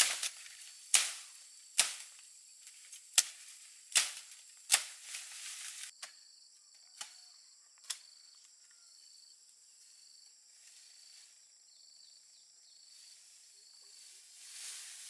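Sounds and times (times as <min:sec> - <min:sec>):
insect chirps: 0:00.0 - 0:15.0
insects droning: 0:00.0 - 0:15.0.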